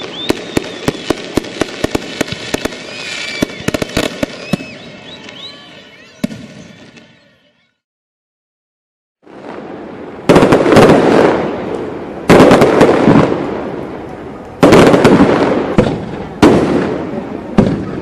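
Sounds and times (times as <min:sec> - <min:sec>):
fireworks bursting with loud bangs: 0:00.0 - 0:07.3, 0:09.2 - 0:18.0.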